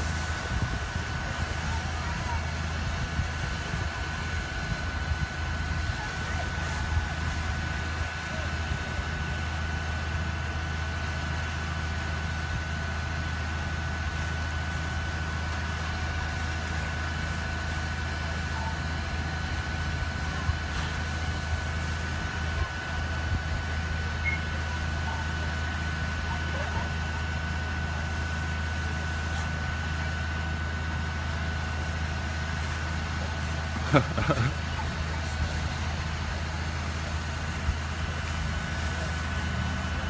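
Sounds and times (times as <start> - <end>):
diesel engine humming: 0.0 - 40.0.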